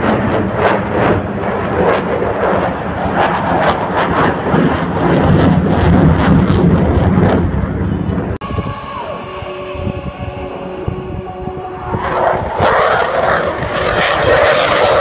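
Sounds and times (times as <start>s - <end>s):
aircraft flying overhead: 0.0s - 15.0s.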